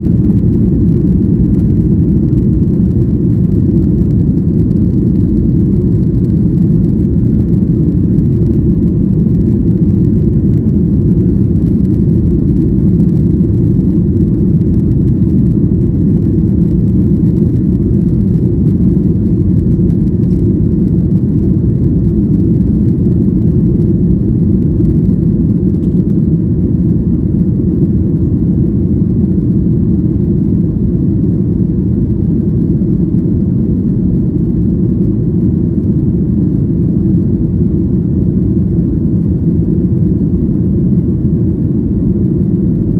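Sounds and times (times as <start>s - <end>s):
jet cabin engine rumble: 0.0s - 42.9s.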